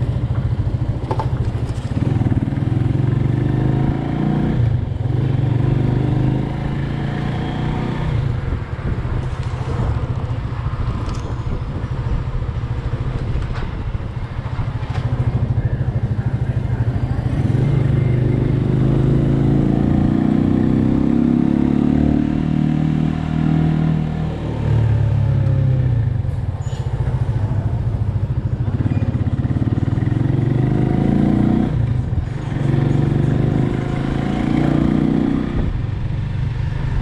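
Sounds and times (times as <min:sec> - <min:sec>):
motorcycle engine revving: 0:00.0 - 0:11.1, 0:14.8 - 0:26.2, 0:27.1 - 0:37.0.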